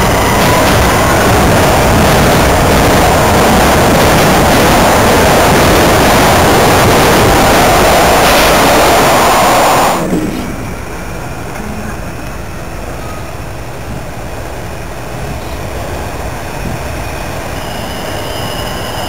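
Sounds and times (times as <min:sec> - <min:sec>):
subway train rushing past: 0:00.0 - 0:19.0.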